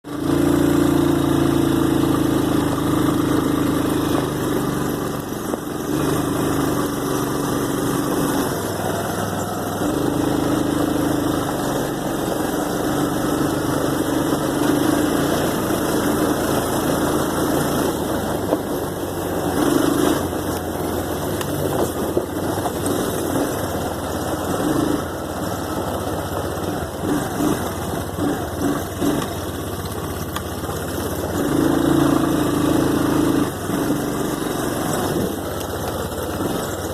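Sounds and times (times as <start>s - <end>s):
off-road vehicle engine running: 0.0s - 36.9s.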